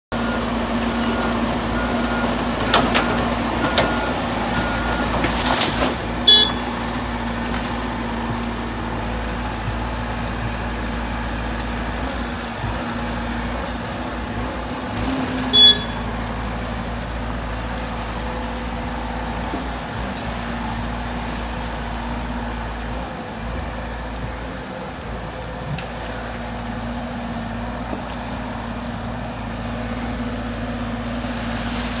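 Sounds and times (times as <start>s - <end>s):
excavator engine humming: 0.1s - 32.0s.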